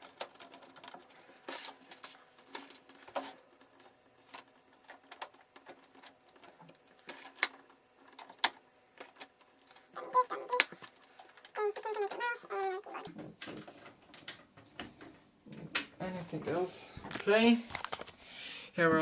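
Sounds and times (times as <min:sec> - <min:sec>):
hands handling computer and cables: 0:00.0 - 0:18.2.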